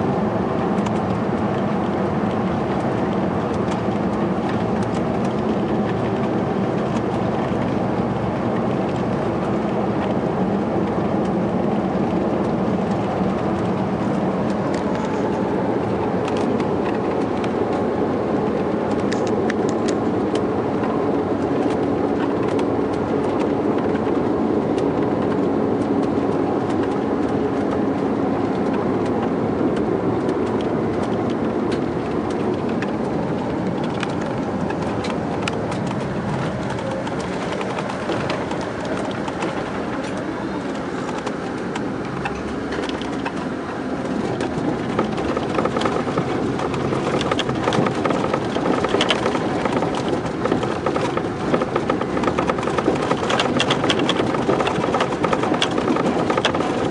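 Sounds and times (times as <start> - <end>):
diesel engine drone: 0.0 - 56.9.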